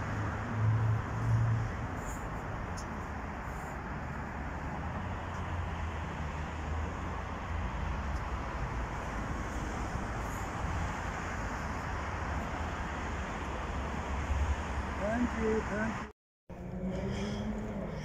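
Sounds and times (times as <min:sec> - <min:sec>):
city traffic noise: 0:00.0 - 0:18.0.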